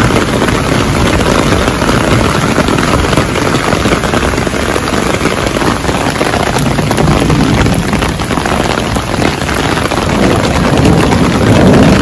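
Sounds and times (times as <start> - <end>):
heavy rain: 0.0 - 12.0
low rumble: 0.0 - 12.0
river in flood: 0.0 - 12.0.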